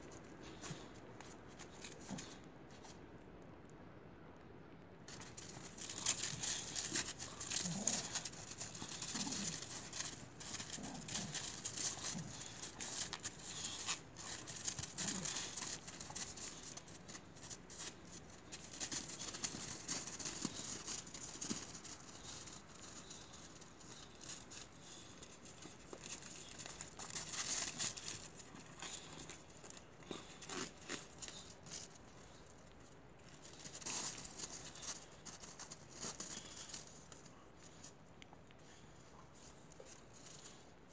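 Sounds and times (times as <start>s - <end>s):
dog paws crunching on icy snow: 5.1s - 38.0s.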